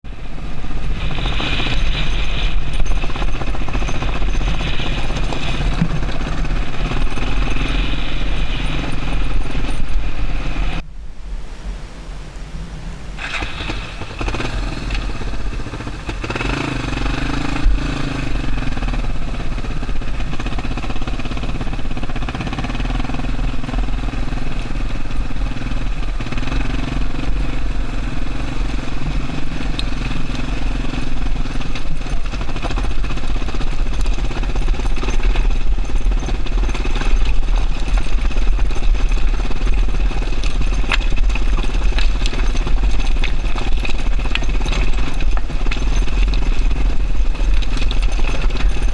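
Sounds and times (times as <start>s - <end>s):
motorcycle engine running: 0.0s - 10.9s, 12.6s - 48.9s.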